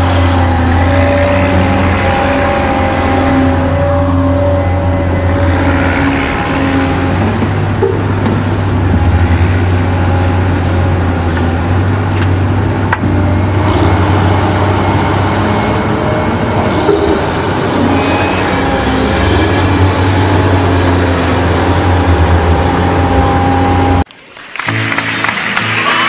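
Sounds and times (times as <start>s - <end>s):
high whine: 0.0s - 24.1s
truck engine running: 0.0s - 24.1s.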